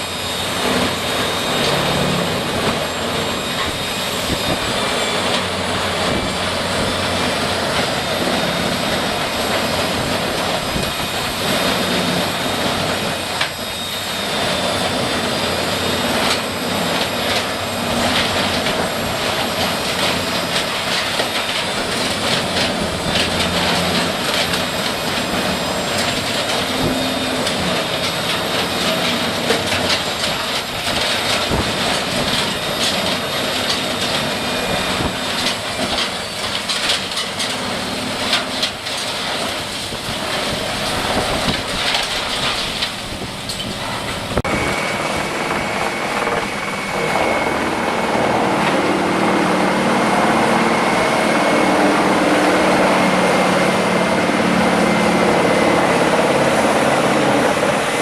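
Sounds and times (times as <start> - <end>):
wood-processing machine droning: 0.0 - 58.0.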